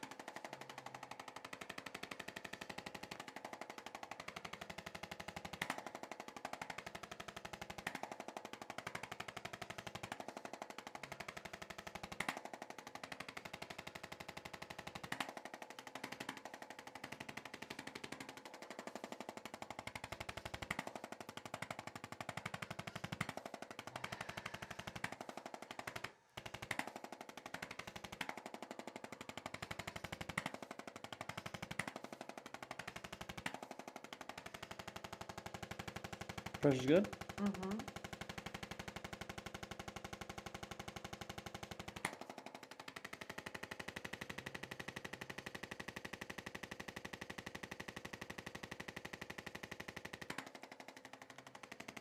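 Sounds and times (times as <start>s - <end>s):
massage gun hammering: 0.0s - 52.0s.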